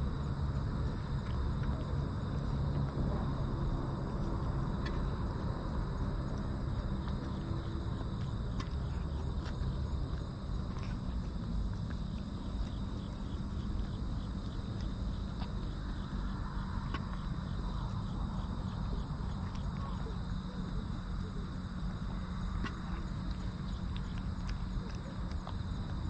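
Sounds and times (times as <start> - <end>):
insects trilling: 0.0 - 26.0
kitten chewing and licking: 0.0 - 26.0
low steady rumble: 0.0 - 26.0.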